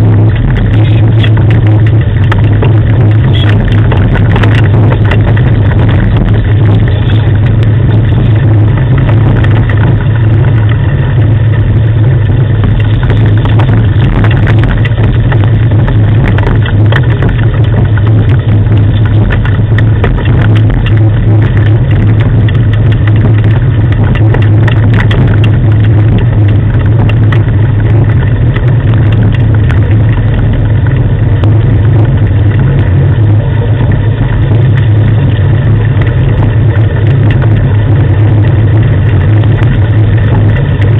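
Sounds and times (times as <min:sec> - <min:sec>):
faint ticks and rattles: 0:00.0 - 0:40.9
rig rumbling on gravel: 0:00.0 - 0:40.9.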